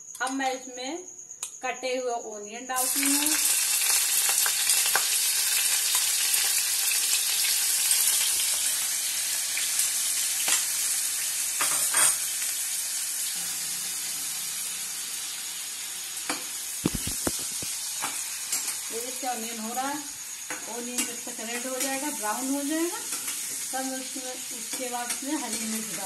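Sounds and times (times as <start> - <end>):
onions sizzling in oil: 2.8 - 26.0.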